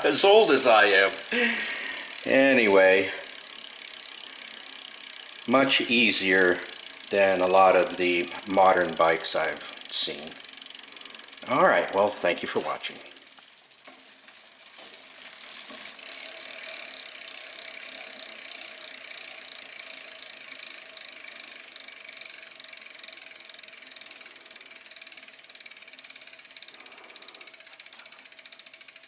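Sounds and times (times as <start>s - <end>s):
bicycle freewheel ticking: 0.0s - 29.0s.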